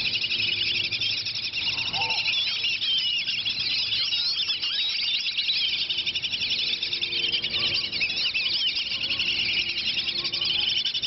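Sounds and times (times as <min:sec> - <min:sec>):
ducks whistling: 0:00.0 - 0:11.0.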